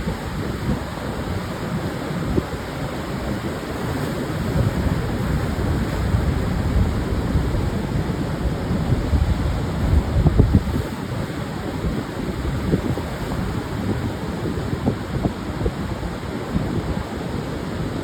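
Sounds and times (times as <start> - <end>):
surf washing onto beach: 0.0 - 18.0
wind buffeting microphone: 0.0 - 18.0.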